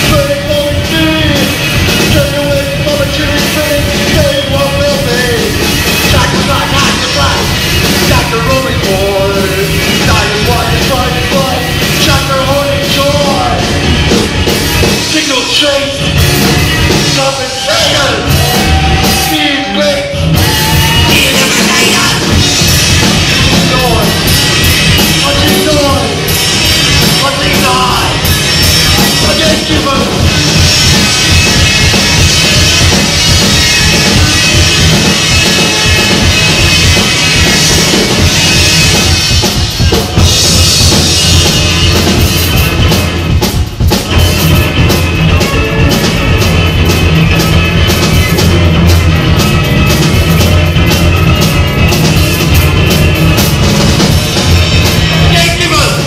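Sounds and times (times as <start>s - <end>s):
bass guitar: 0.0s - 56.0s
drum kit with cymbals: 0.0s - 56.0s
electric guitar: 0.0s - 56.0s.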